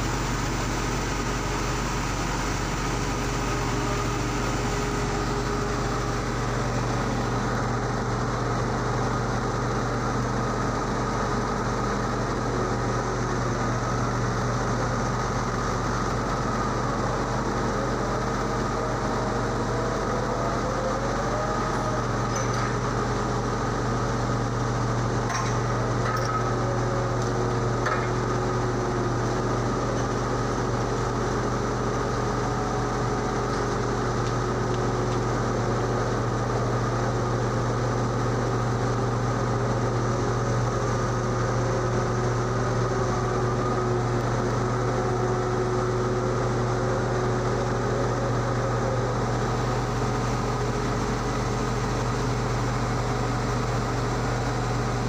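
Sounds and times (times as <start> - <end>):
diesel machinery drone: 0.0 - 55.0.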